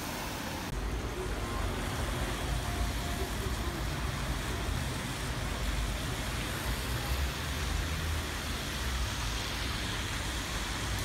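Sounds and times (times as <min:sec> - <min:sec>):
bus engine rumble: 0:00.0 - 0:11.0
tyres hissing on wet road: 0:00.0 - 0:11.0.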